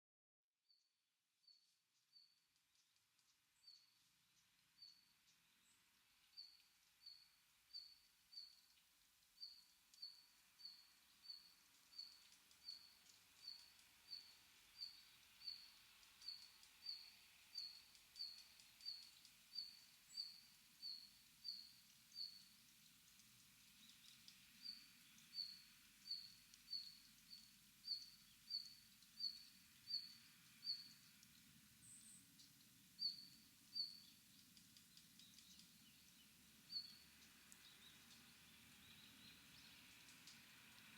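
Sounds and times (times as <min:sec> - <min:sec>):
faint forest background: 0:00.7 - 0:40.9.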